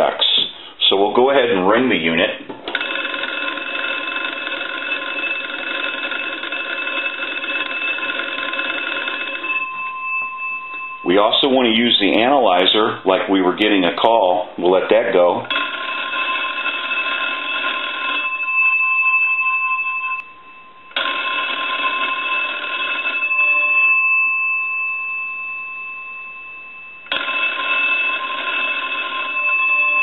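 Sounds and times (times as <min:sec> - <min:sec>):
telephone bells ringing: 0:01.6 - 0:12.9, 0:15.1 - 0:30.0.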